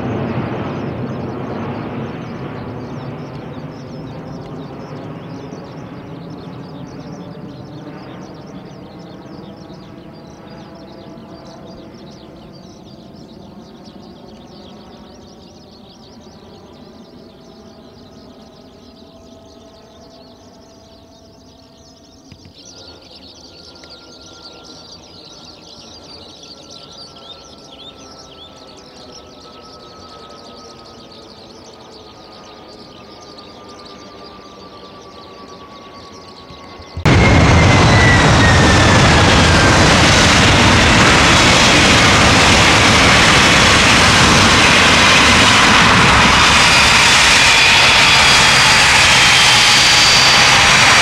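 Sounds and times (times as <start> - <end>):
birds chirping: 0.0 - 51.0
jet engines overhead: 0.0 - 51.0.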